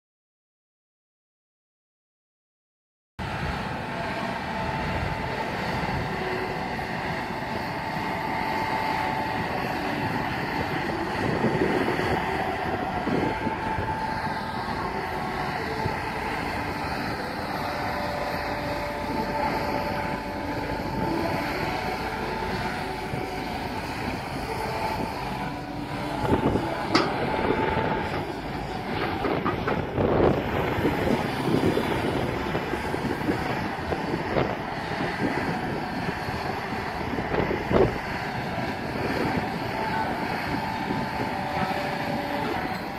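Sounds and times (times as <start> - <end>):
excavator engine drone: 3.2 - 42.9
steady whine: 3.2 - 42.9.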